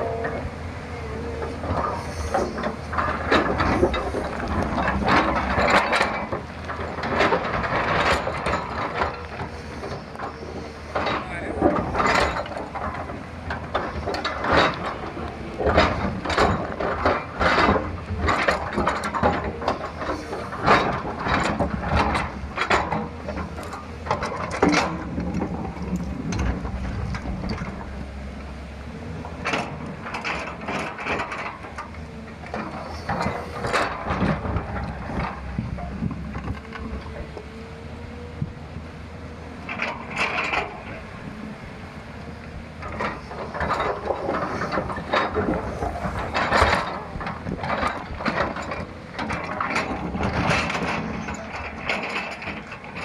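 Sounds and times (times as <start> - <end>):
diesel engine running: 0.0 - 53.0
excavator bucket clanks and scrapes: 0.0 - 53.0.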